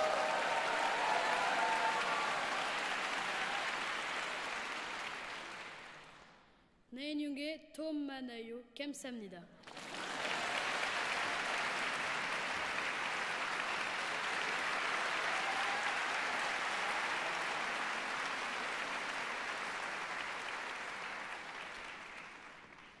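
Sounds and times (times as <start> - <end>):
audience applauding: 0.0 - 6.4, 9.6 - 23.0.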